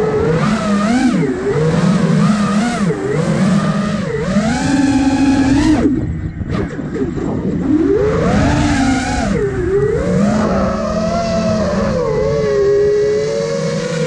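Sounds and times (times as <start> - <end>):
drone motors whining: 0.0 - 14.0
rushing wind noise: 0.0 - 14.0.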